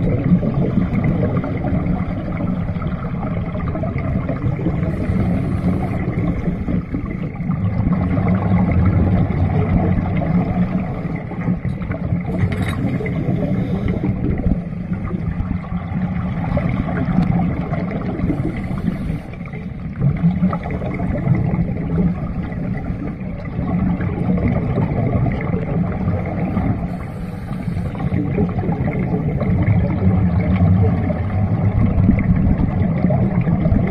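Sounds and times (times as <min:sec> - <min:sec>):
exhaled bubbles gurgling hiss: 0:00.0 - 0:33.9
underwater low rumble: 0:00.0 - 0:33.9.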